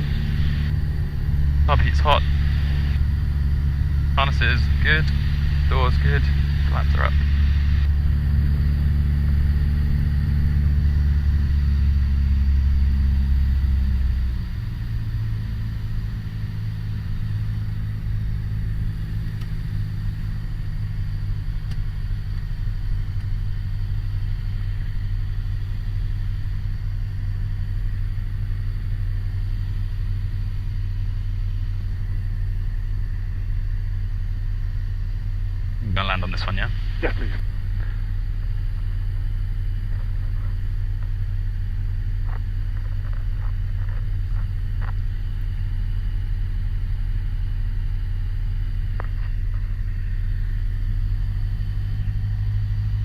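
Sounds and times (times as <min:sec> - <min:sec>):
aircraft engine droning: 0:00.0 - 0:53.0.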